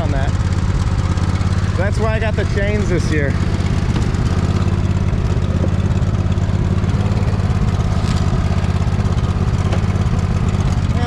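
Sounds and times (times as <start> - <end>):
riding lawn mower engine running: 0.0 - 11.0.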